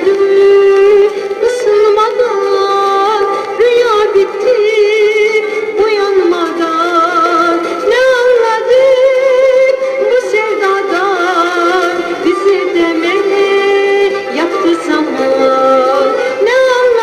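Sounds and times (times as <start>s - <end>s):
pop instrumental backing: 0.0s - 17.0s
woman singing with vibrato: 0.0s - 17.0s.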